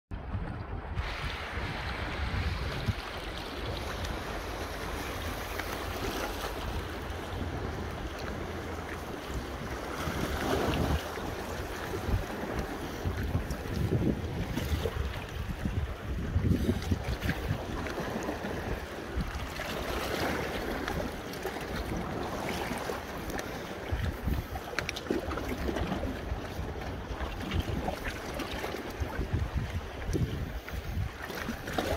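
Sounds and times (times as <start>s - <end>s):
wind on microphone: 0.1s - 31.9s
small waves washing against rocks: 0.9s - 31.9s.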